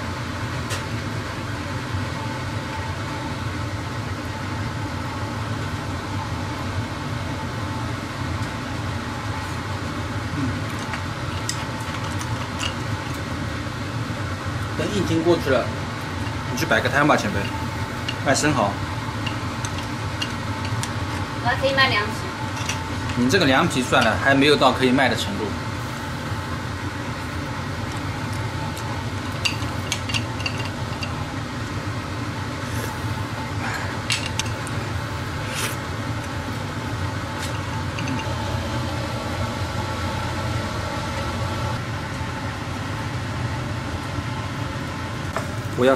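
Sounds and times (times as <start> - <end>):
extractor fan whirring: 0.0 - 45.9
oysters sizzling on a grill: 3.4 - 40.7.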